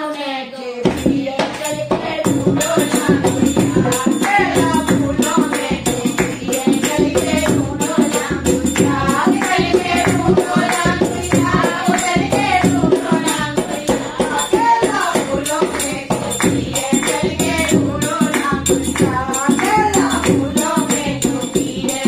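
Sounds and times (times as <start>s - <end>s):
woman singing: 0.0s - 22.0s
jingling hand percussion: 0.6s - 22.0s
dholak drum: 0.8s - 22.0s.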